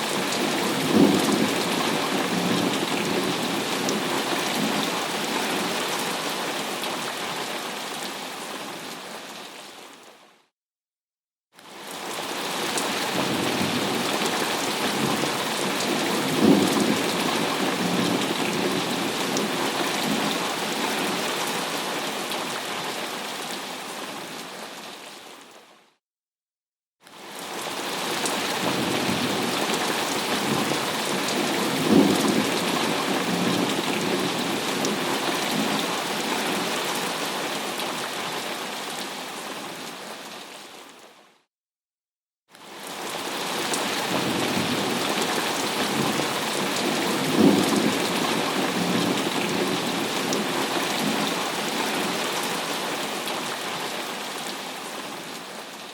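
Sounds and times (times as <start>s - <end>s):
heavy rain: 0.0s - 10.0s, 11.6s - 25.5s, 27.2s - 41.2s, 42.6s - 55.9s.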